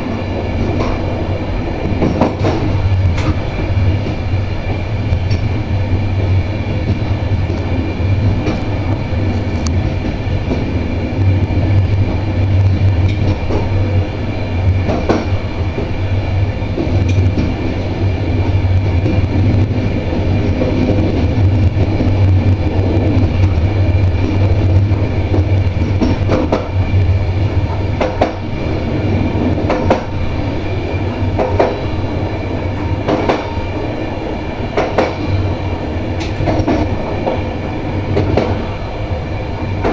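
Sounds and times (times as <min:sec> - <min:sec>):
electric locomotive hum: 0:00.0 - 0:39.9
wheels rumbling on rail: 0:00.0 - 0:39.9.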